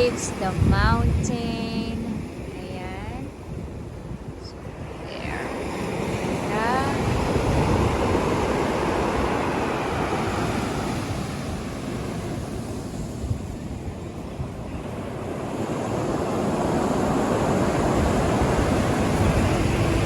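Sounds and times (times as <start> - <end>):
waves breaking on rocky shore: 0.0 - 14.0, 14.8 - 20.0
wind buffeting microphone: 0.0 - 20.0.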